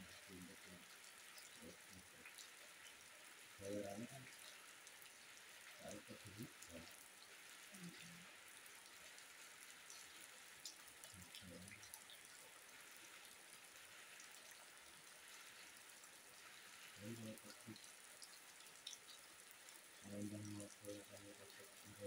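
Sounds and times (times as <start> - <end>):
rain on wet ground: 0.0 - 22.0.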